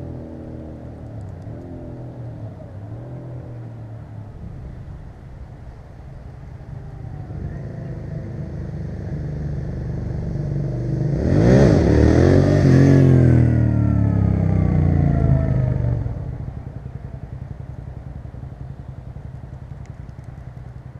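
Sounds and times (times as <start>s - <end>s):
motorcycle passing by: 0.0s - 19.2s.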